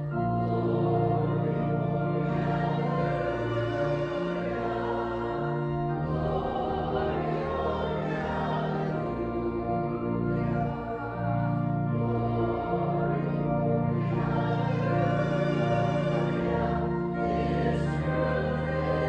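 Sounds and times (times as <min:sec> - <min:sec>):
organ playing chords: 0:00.0 - 0:19.0
voices singing a hymn: 0:00.0 - 0:19.0.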